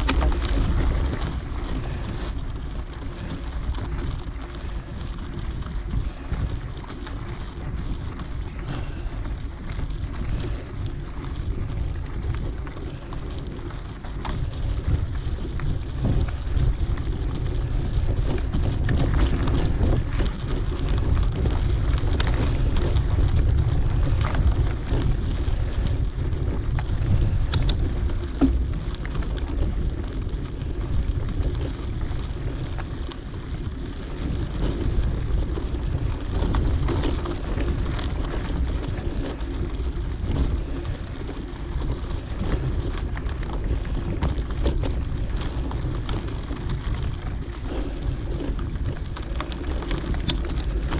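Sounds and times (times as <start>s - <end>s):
small clicks and rattles: 0.0s - 50.9s
tyre rumble on dirt trail: 0.0s - 50.9s
wind rushing over microphone: 0.0s - 50.9s.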